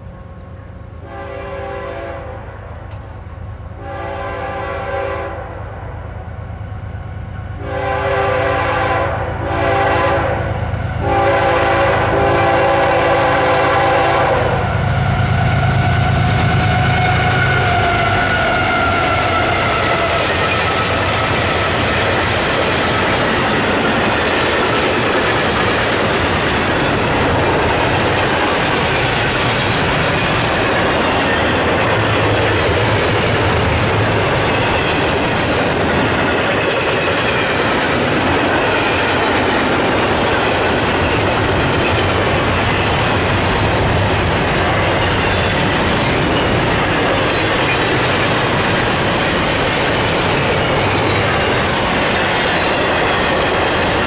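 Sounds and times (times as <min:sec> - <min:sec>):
freight train wheels on rail: 0:00.0 - 0:54.0.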